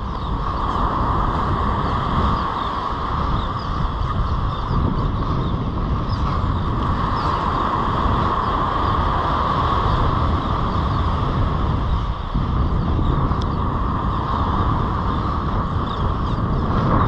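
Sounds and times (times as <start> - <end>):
waves washing onto beach: 0.0 - 17.0
wind buffeting microphone: 0.0 - 17.0.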